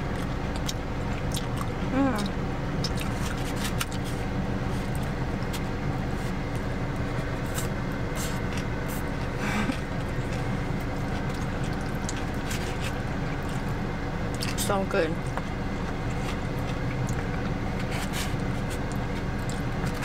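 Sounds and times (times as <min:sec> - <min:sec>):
car idling hum: 0:00.0 - 0:20.0.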